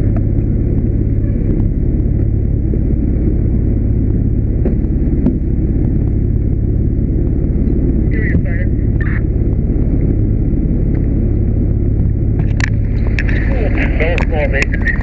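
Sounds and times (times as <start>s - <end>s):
fire engine diesel engine idling: 0.0s - 15.0s.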